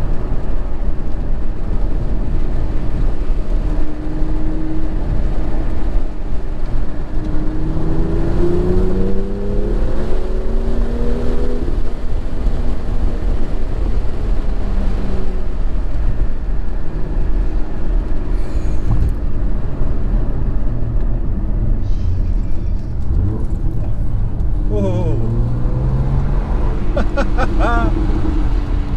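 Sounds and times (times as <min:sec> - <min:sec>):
car engine accelerating: 0:00.0 - 0:28.9
car rumbling on road: 0:00.0 - 0:28.9.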